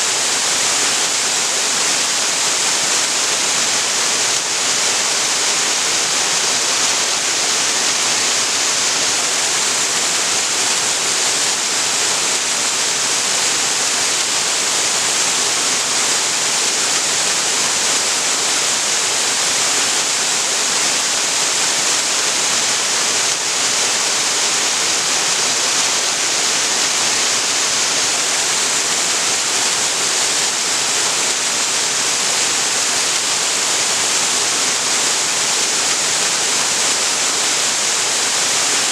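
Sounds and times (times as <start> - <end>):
waterfall pouring into creek: 0.0 - 38.9.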